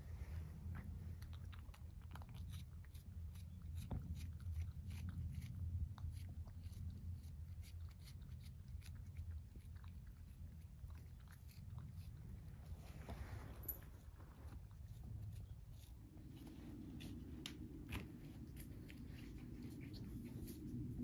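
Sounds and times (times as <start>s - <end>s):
cat chewing and crunching: 0.0s - 21.0s
low steady rumble: 0.0s - 21.0s.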